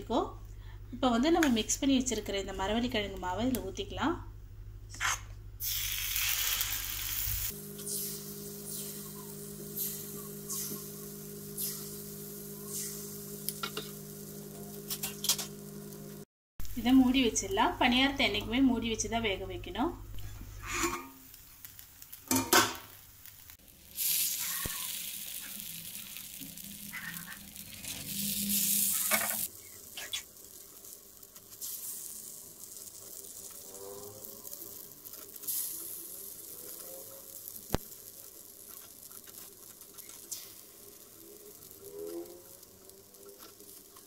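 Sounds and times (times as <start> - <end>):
food sizzling in oil: 5.6 - 18.8, 20.1 - 44.0.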